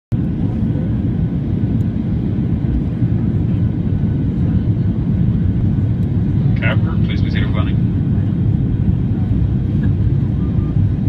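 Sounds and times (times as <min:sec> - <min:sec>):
jet engines low roar: 0:00.1 - 0:11.0.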